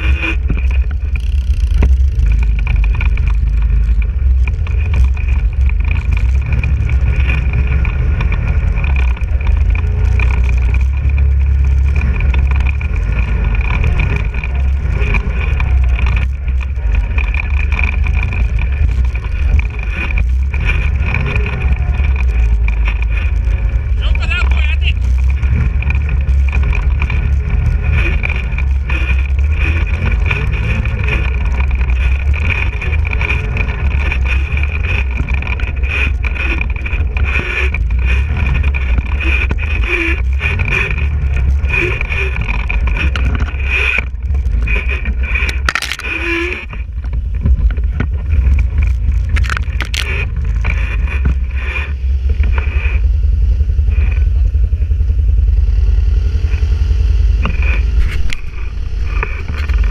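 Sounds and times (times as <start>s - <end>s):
quad bike engine rumbling: 0.0s - 59.9s.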